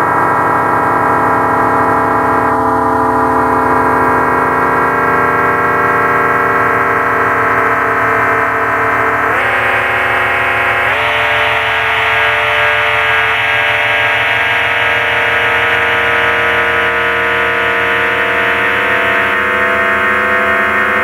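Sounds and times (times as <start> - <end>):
synthesizer drone chord: 0.0 - 21.0.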